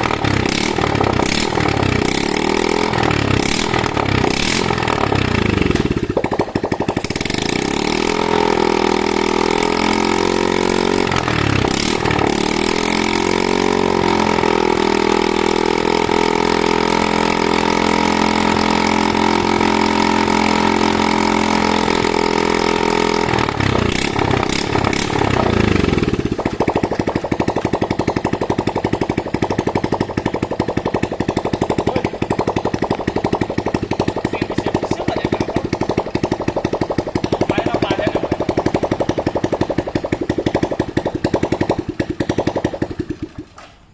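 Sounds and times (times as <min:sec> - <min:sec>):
winch engine running: 0:00.0 - 0:43.6.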